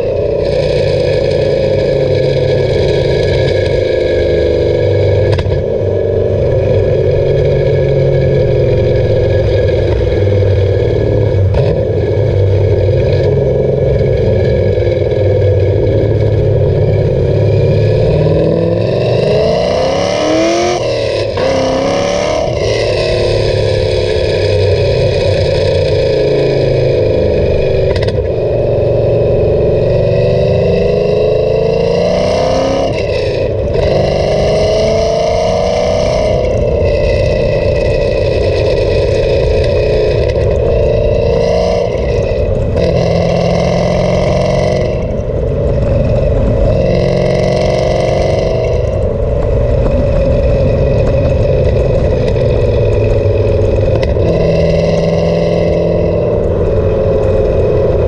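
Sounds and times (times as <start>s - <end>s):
car exhaust at highway speed: 0.0s - 58.0s.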